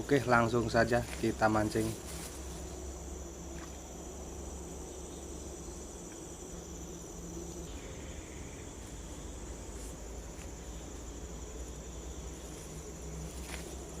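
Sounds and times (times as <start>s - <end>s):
high-pitched insect chorus: 0.0s - 14.0s
low steady rumble: 0.0s - 14.0s.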